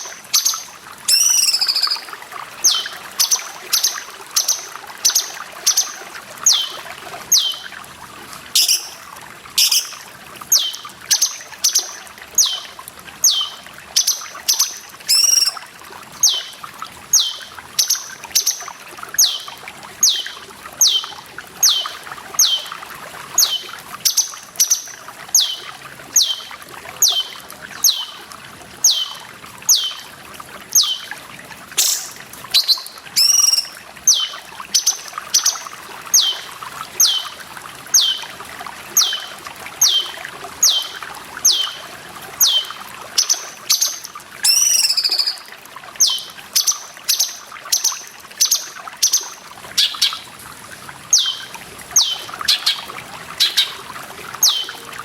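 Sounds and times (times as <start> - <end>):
bird warbled call: 0.0 - 7.7, 8.6 - 9.0, 9.6 - 15.6, 16.2 - 22.7, 23.4 - 28.2, 28.8 - 30.1, 30.8 - 31.1, 31.8 - 37.4, 39.0 - 41.8, 42.4 - 50.2, 51.1 - 53.8, 54.4 - 54.8
trickling water: 0.0 - 55.0.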